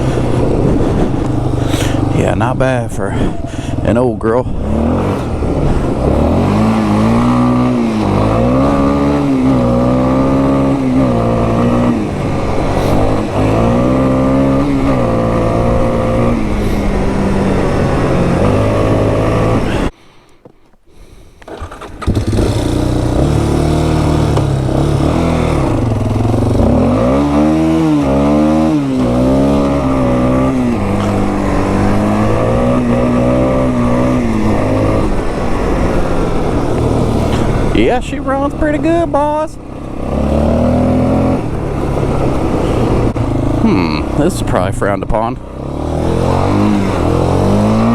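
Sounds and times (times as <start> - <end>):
atv engine revving: 0.0 - 20.0, 21.4 - 47.9.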